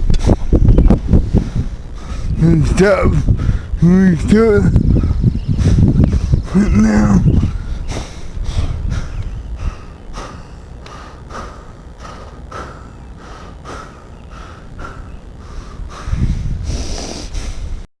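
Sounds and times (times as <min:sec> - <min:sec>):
low wind rumble: 0:00.0 - 0:17.9
person breathing hard: 0:00.1 - 0:02.4, 0:03.2 - 0:03.8, 0:04.9 - 0:17.8.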